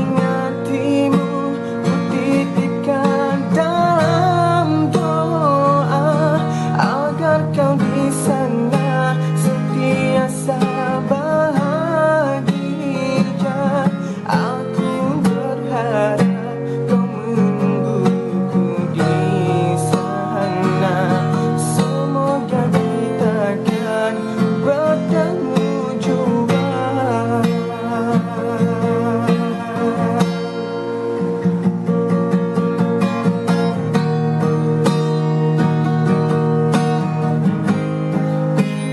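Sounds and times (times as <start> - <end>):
acoustic guitar chords: 0.0 - 38.9.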